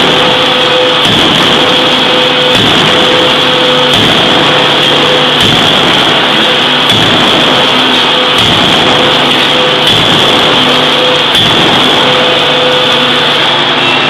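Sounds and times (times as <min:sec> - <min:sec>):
forging hammer blows: 0:00.0 - 0:14.0
loud steady hiss: 0:00.0 - 0:14.0
steady hum: 0:00.0 - 0:14.0.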